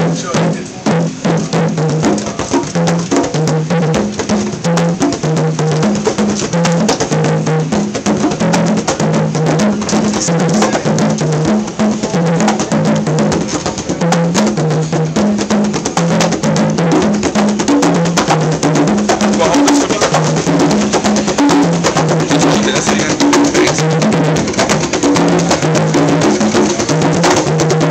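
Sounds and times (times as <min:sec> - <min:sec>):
conga drums playing: 0:00.0 - 0:27.9.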